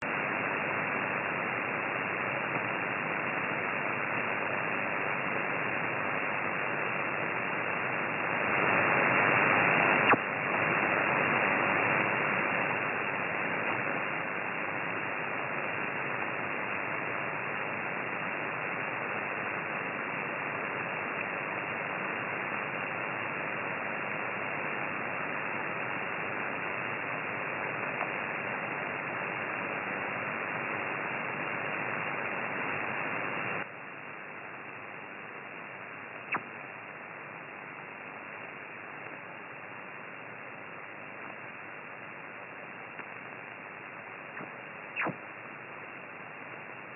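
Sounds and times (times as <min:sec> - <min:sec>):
radio static hiss: 0:00.0 - 0:46.9.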